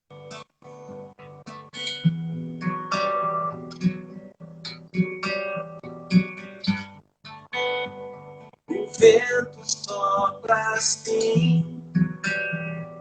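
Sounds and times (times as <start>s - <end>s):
acoustic guitar playing chords: 0.0s - 13.0s.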